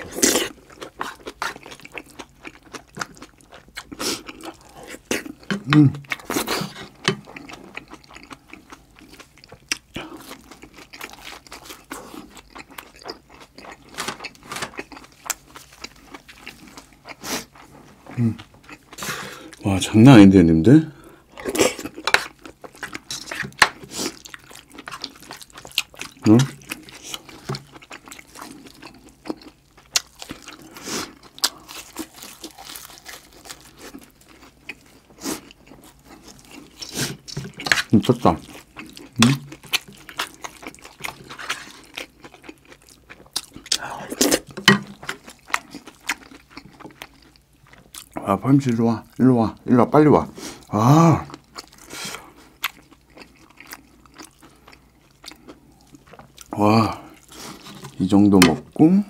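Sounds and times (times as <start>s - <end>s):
close-miked chewing: 0.0s - 19.9s, 21.1s - 58.8s.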